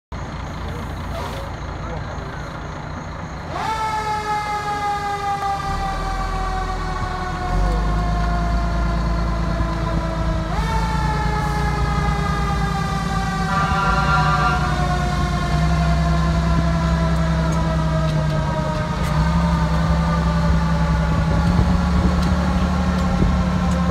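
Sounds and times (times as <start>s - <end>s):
truck engine rumble: 0.1s - 23.9s
fire truck siren: 0.3s - 23.9s.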